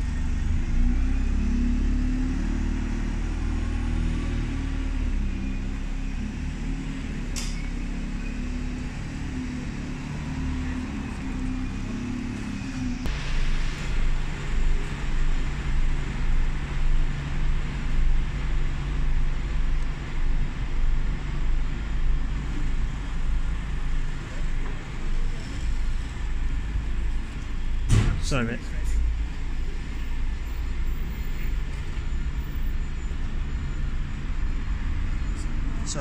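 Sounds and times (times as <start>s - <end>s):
bus engine humming: 0.0s - 36.0s
diesel bus engines idling: 0.0s - 36.0s.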